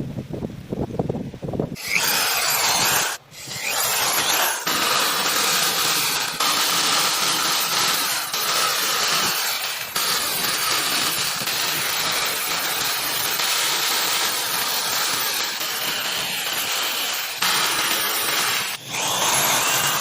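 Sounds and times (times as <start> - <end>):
power tool machining wood: 1.8 - 20.0.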